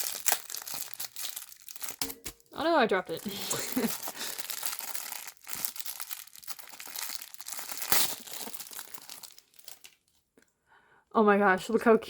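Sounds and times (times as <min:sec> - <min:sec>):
plastic wrapper crinkling and tearing: 0:00.0 - 0:10.3.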